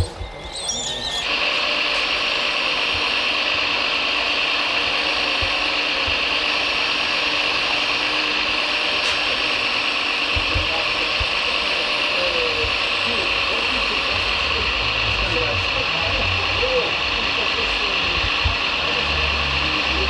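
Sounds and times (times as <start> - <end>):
model electric drive gear whir: 0.0 - 20.0.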